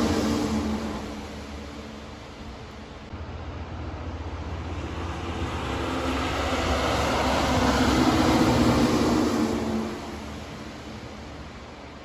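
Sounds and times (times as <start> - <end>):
truck passing: 0.0 - 12.0.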